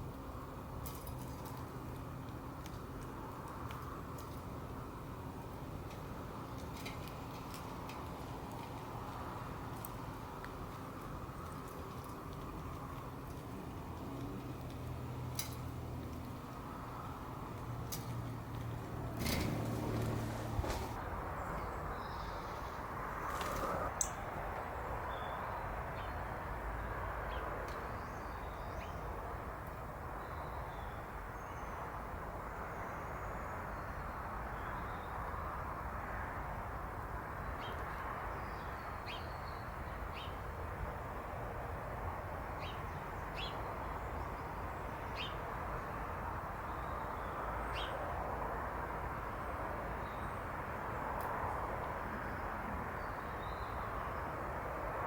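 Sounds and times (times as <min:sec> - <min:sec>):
steady background noise: 0:00.0 - 0:55.0.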